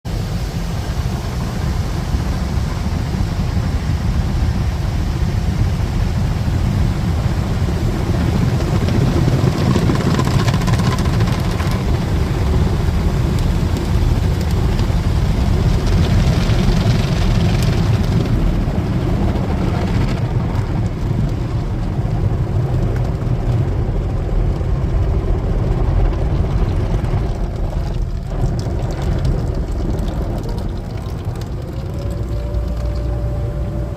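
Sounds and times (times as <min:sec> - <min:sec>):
car wash machinery rumble: 0:00.0 - 0:33.9.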